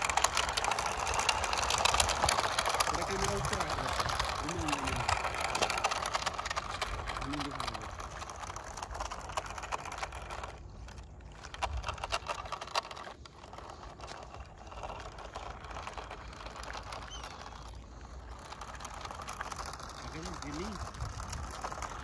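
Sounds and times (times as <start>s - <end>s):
toy motor and gears whirring: 0.0s - 22.0s
tyres crunching over gravel: 0.0s - 22.0s.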